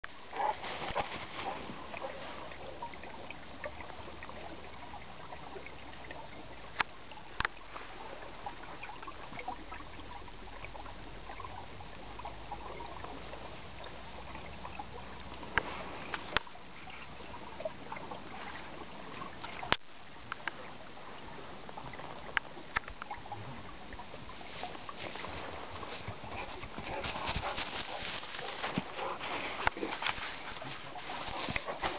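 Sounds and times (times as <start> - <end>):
water trickling under ice: 0.1 - 31.9.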